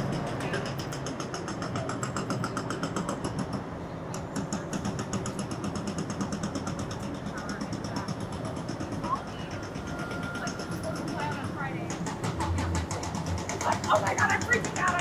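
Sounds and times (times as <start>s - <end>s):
city traffic rumble: 0.0s - 15.0s
rapid mechanical ticking: 0.0s - 15.0s.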